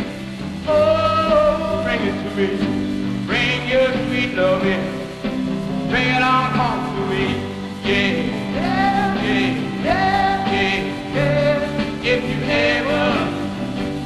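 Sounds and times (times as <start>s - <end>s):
man singing sliding notes: 0.0s - 14.0s
rhythm and blues band playing: 0.0s - 14.0s.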